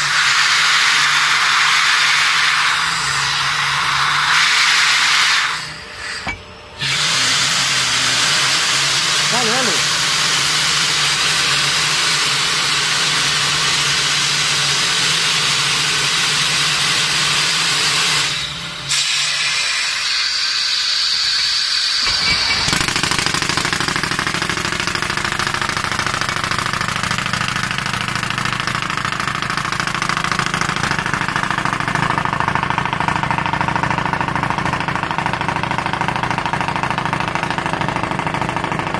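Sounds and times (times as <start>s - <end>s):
drilling machine droning and rattling: 0.0s - 38.9s.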